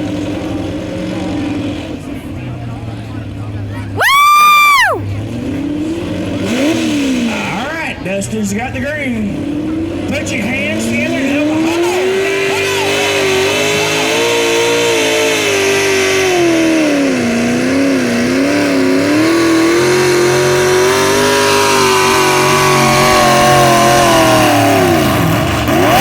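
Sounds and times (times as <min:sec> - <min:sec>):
truck engine revving under load: 0:00.0 - 0:26.0.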